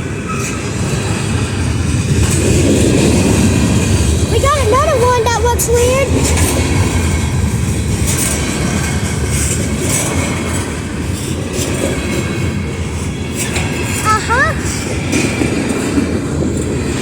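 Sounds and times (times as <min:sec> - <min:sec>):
freight train cars rumbling past: 0:00.0 - 0:17.0
wheels clacking over rails: 0:00.0 - 0:17.0.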